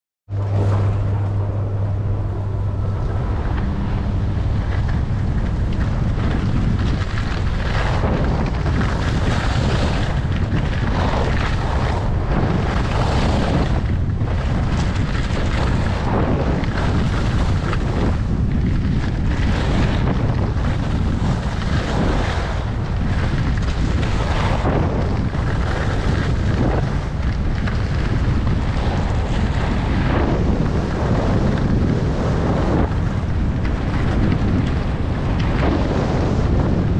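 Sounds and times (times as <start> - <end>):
wind buffeting microphone: 0.3 - 36.9.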